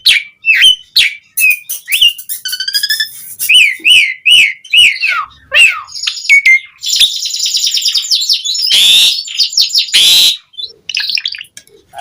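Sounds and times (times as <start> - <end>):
starling whistles and chattering: 0.0 - 12.0.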